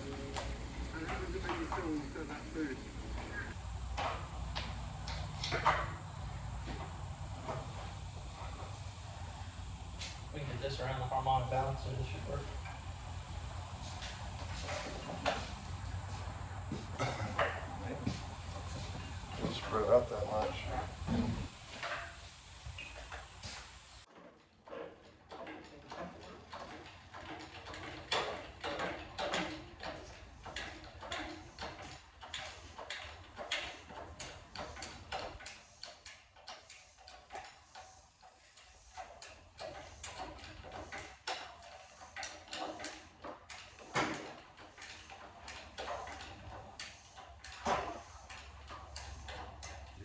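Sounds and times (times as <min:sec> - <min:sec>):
metallic clicks and clanks: 0:00.0 - 0:50.0.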